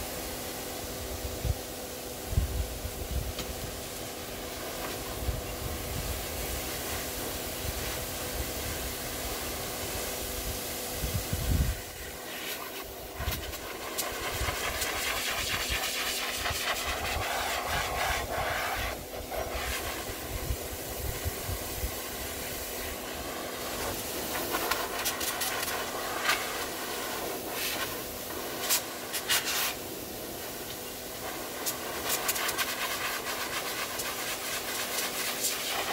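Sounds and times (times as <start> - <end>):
dog dryer blower running: 0.0 - 35.9.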